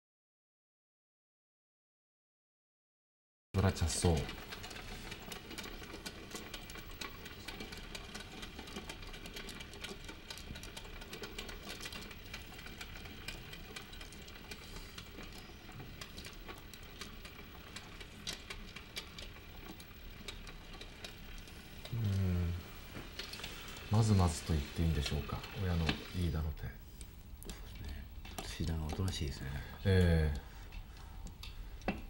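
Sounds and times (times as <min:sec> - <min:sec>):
mahjong tiles clicking: 0:03.6 - 0:32.0.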